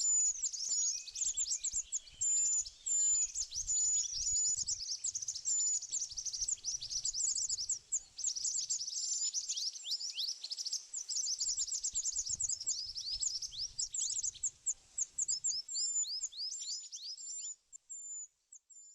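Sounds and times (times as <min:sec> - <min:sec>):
birds chirping: 0:00.0 - 0:17.5.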